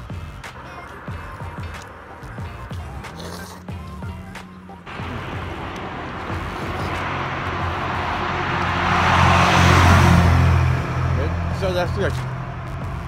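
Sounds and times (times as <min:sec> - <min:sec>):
vehicle driving past: 0:00.3 - 0:13.0.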